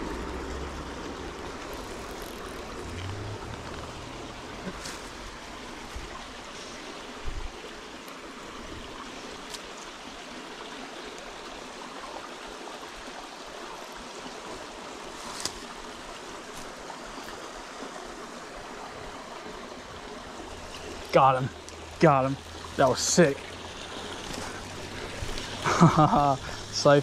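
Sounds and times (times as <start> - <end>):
creek water rushing and trickling: 0.0 - 27.0.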